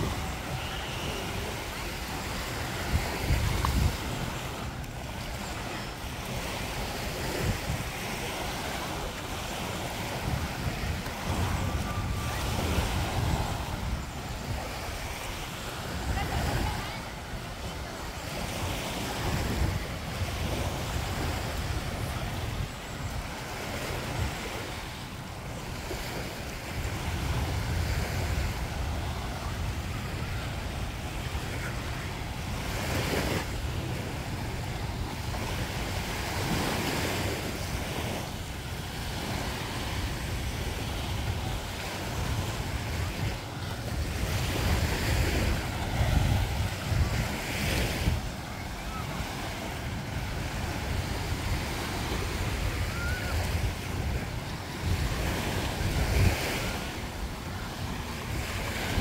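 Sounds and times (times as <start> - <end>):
surf breaking on sandy beach: 0.0 - 59.0
wind rumbling on microphone: 0.0 - 59.0.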